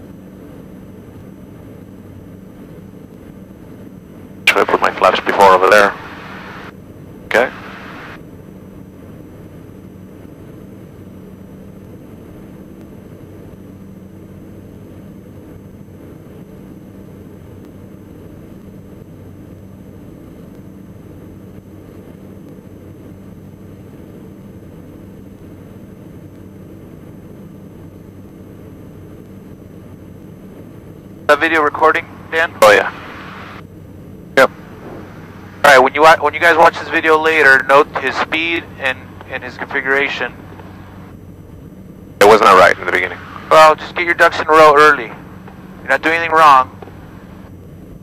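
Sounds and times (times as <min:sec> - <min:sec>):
airplane engines droning: 0:00.0 - 0:48.0
faint high whine: 0:00.0 - 0:48.0.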